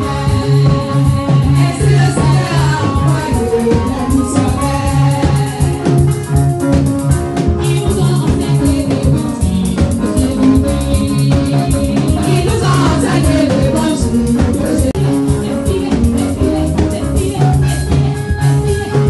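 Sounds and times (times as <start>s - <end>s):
women singing into microphones: 0.0s - 6.7s, 7.4s - 19.0s
amplified gospel music: 0.0s - 19.0s.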